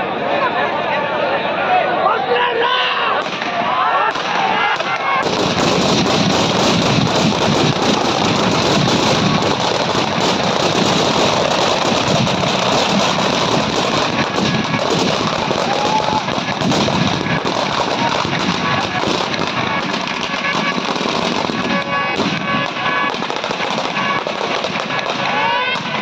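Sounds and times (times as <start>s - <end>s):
firecrackers crackling: 3.1s - 26.0s.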